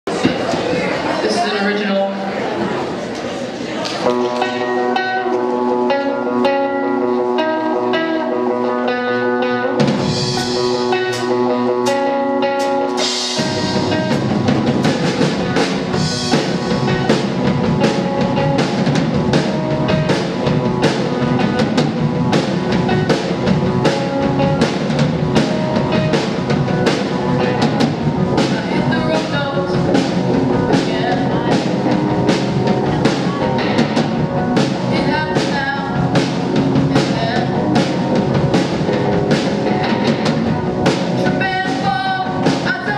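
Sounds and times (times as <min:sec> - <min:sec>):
rock band playing: 0:03.8 - 0:42.9
guitar picking melody: 0:04.0 - 0:42.9.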